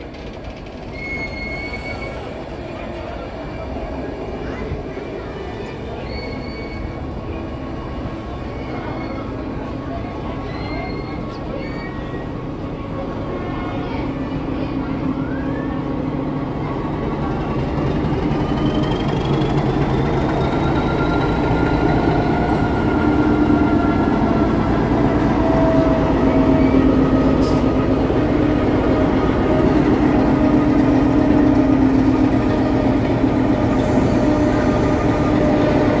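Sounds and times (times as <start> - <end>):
diesel locomotive engine rumbling: 0.0 - 36.0.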